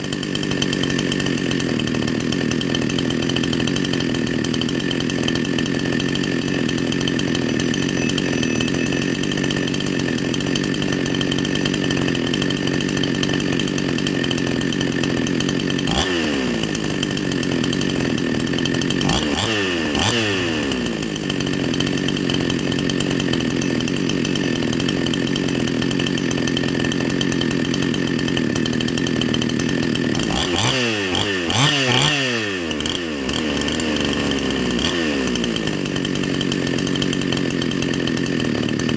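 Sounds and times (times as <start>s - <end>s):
chainsaw running at high revs: 0.0s - 38.9s.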